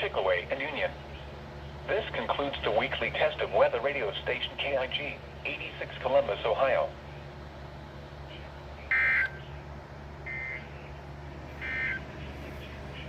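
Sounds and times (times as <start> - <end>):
low radio hum: 0.0 - 13.0.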